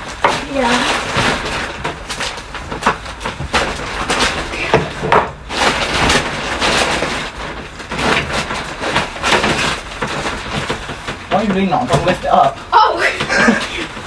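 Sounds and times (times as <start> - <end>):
wood knocking and scraping: 0.0 - 14.0.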